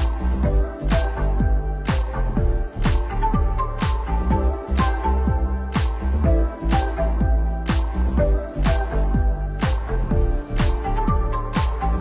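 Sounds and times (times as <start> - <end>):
deep kick drum: 0.0 - 12.0
electronic music with steady beat: 0.0 - 12.0.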